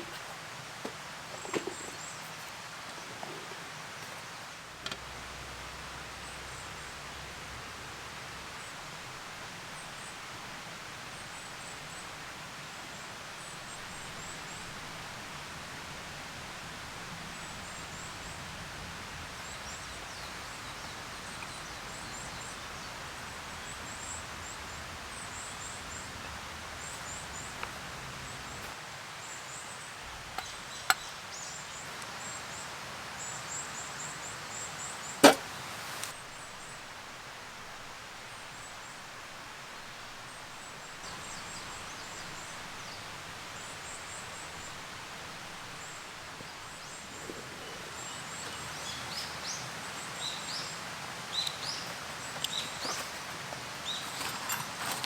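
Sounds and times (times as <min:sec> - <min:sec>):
steady rain in woodland: 0:00.0 - 0:55.0.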